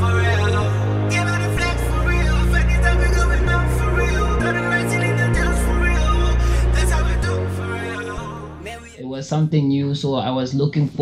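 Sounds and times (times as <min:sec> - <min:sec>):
hip-hop track: 0:00.0 - 0:09.7.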